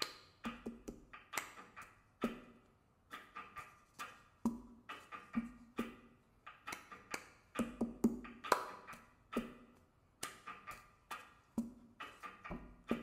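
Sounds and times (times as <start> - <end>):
hand claps and taps: 0.0 - 13.0.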